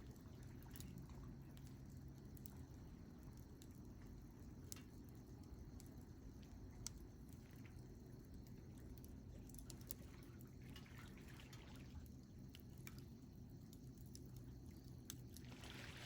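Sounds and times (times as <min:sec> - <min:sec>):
campfire pops and crackles: 0:00.5 - 0:10.5, 0:12.4 - 0:15.5.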